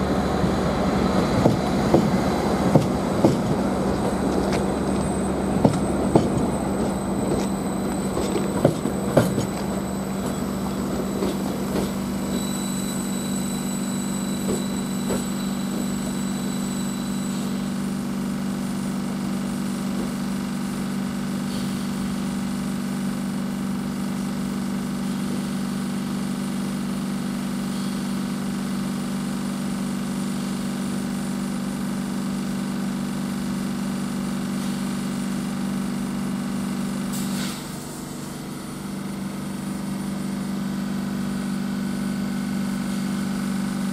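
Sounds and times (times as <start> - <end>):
train engine idling hum: 0.0 - 43.9.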